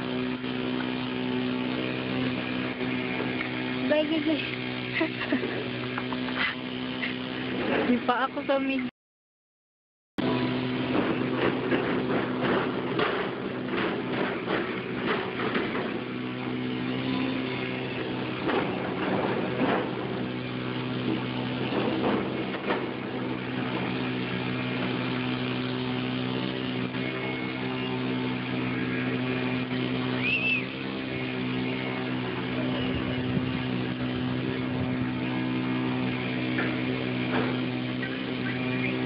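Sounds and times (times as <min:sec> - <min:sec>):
steady hum: 0:00.0 - 0:08.9, 0:10.2 - 0:39.0.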